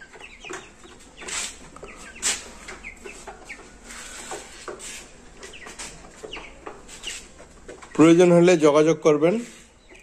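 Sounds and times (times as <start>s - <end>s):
chickens and chicks calling: 0.0s - 10.0s.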